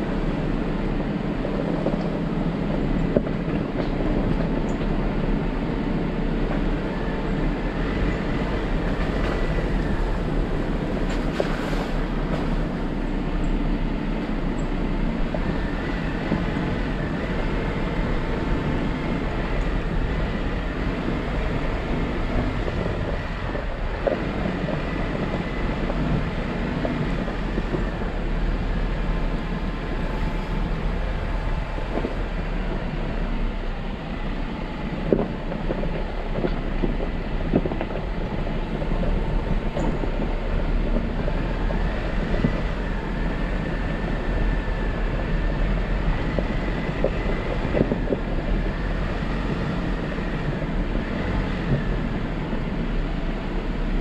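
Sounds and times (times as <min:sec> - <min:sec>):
vehicle engine and tyres rumbling: 0:00.0 - 0:54.0.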